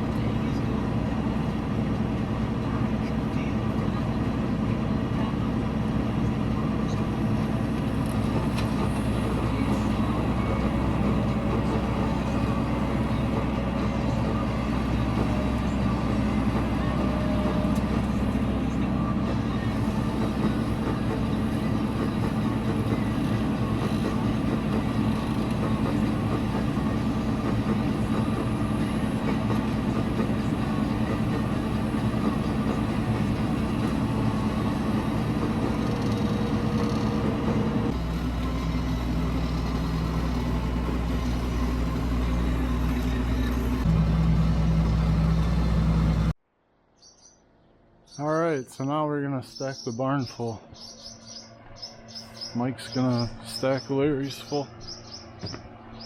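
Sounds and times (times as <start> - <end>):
engine running: 0.0 - 46.4, 50.6 - 56.0.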